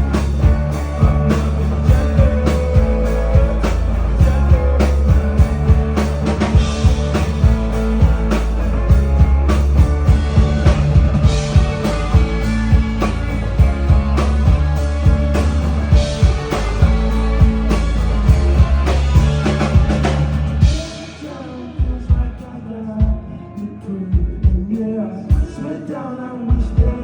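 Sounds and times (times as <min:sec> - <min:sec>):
drum kit beat: 0:00.0 - 0:23.3, 0:24.2 - 0:25.6
sustained bass line: 0:00.0 - 0:24.8.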